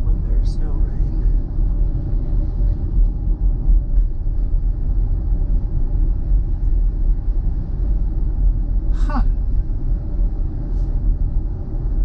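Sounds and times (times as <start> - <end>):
road and tyre noise: 0.0 - 12.0.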